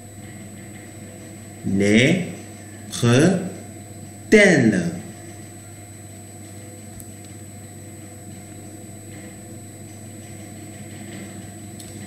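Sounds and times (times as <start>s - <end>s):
faint high whine: 0.0s - 12.0s
low room hum: 0.0s - 12.0s.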